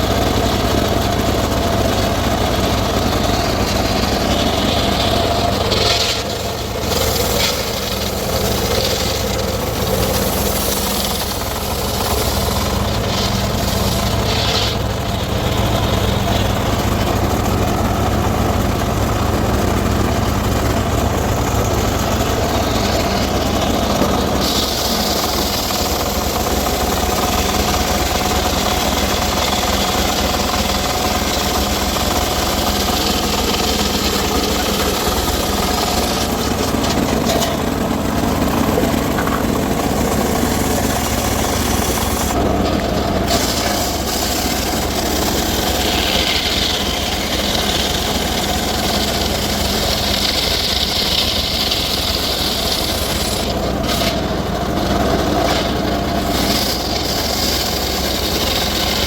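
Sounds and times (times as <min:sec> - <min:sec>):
circular saw hiss cutting wood: 0:00.0 - 0:59.0
engine drone: 0:00.0 - 0:59.0.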